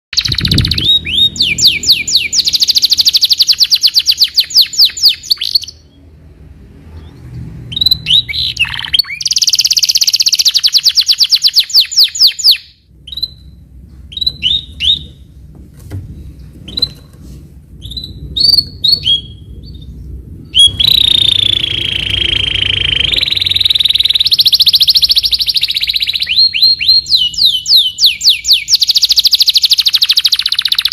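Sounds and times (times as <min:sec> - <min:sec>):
canary singing trills: 0:00.1 - 0:06.1, 0:06.9 - 0:15.3, 0:17.8 - 0:30.9.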